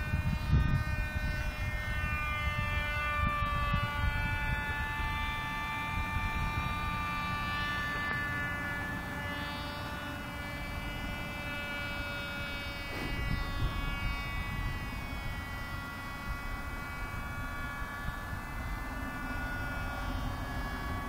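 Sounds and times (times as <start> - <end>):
model plane engine buzzing: 0.0 - 21.0
wind rumble on microphone: 0.0 - 21.0.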